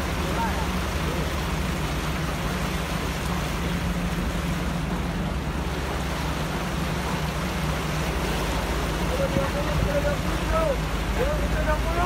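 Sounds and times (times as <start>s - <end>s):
floodwater rushing: 0.0s - 12.0s
low engine hum: 0.0s - 12.0s.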